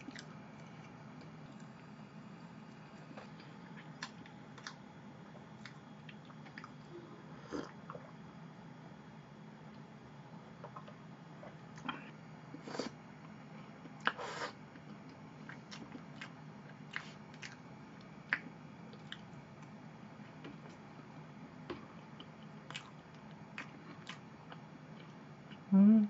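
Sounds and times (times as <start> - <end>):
soft chewing: 0.0 - 8.1, 10.6 - 19.8, 21.7 - 25.7.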